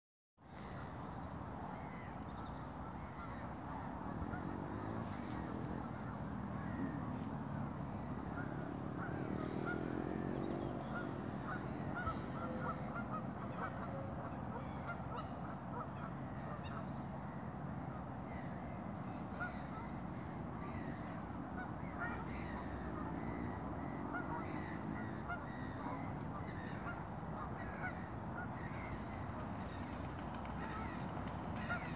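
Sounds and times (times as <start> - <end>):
geese honking: 2.6 - 18.5, 19.1 - 31.9.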